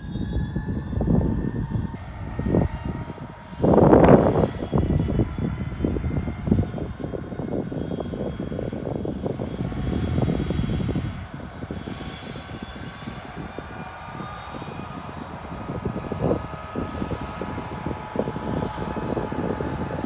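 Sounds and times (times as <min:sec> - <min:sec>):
diesel locomotive engine droning: 0:00.0 - 0:20.0.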